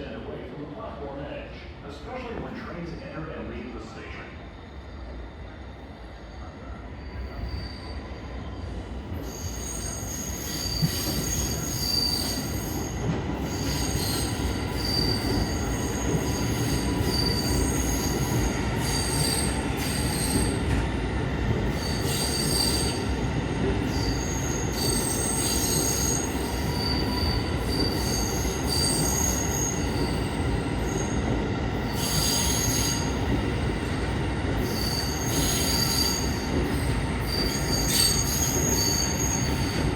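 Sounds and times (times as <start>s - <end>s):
subway train running on rails: 0.0s - 39.9s
train wheels squealing: 3.8s - 20.8s, 21.6s - 39.9s.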